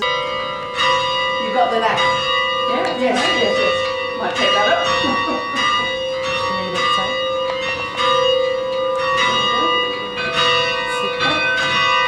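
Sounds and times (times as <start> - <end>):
tower bells ringing: 0.0 - 12.0.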